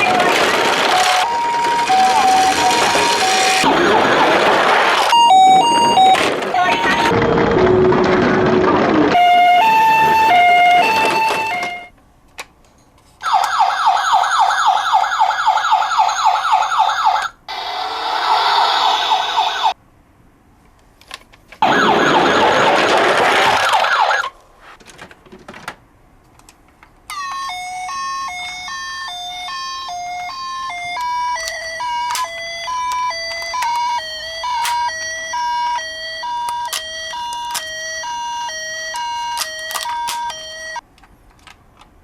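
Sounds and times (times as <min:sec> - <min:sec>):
toy electronic sirens: 0:00.0 - 0:11.9, 0:13.2 - 0:19.8, 0:21.6 - 0:24.3, 0:27.1 - 0:40.8.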